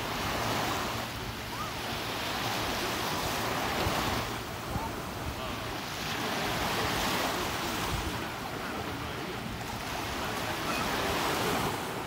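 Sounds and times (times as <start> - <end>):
sea surf splashing: 0.0 - 12.0.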